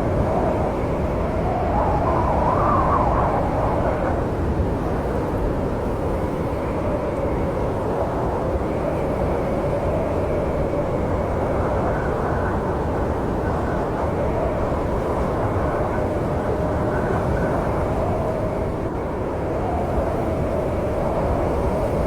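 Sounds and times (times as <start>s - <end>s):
snowstorm wind rumbling and whistling: 0.0s - 22.0s.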